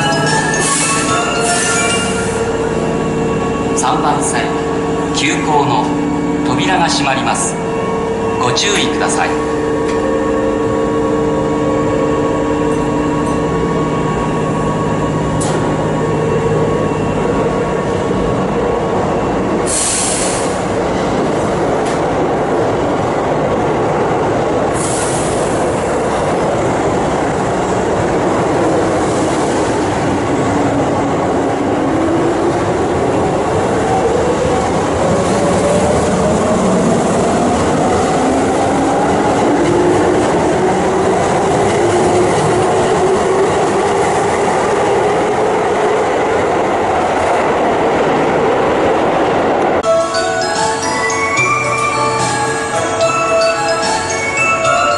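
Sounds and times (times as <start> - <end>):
train rumble and wheel noise: 0.0 - 54.9.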